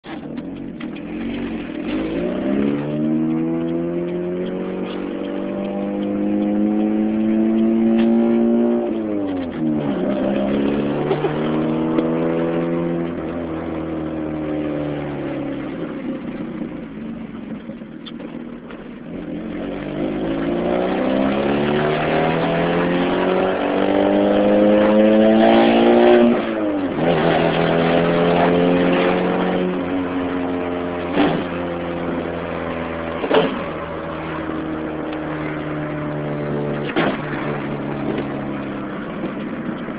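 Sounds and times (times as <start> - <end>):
loud raspy car engine revving: 0.6 - 17.5, 19.0 - 39.9.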